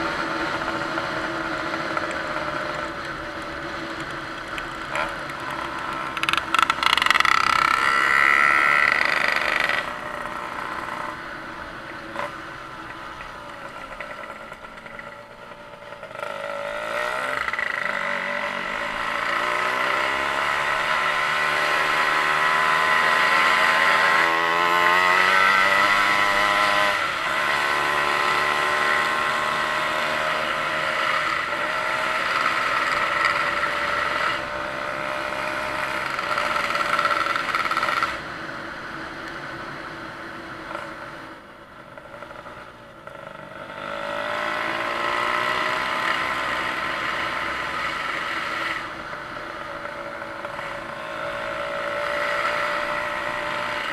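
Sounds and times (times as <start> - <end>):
engine revving and idling: 0.0 - 39.2, 40.5 - 53.9.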